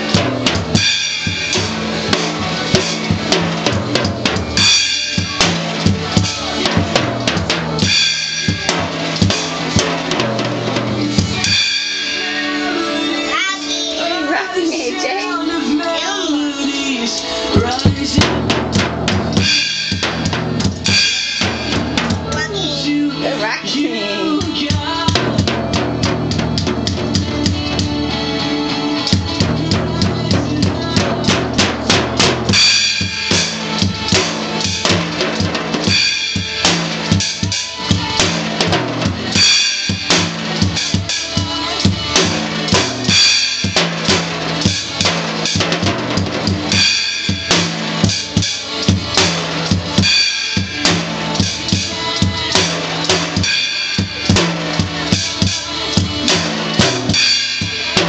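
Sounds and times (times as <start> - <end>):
drum kit playing: 0.0 - 58.0
recorded rock song: 0.0 - 58.0.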